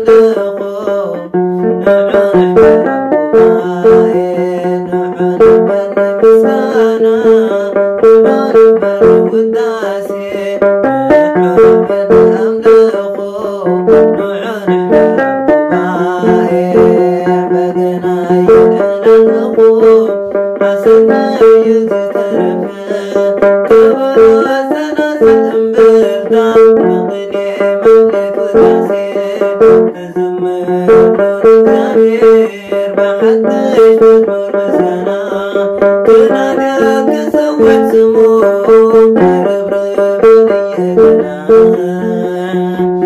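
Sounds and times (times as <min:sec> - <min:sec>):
plucked lyre low notes: 0:00.0 - 0:43.0.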